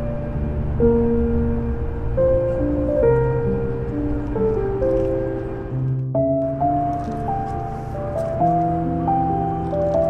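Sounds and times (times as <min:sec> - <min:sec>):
slow melody over low bass: 0:00.0 - 0:10.0.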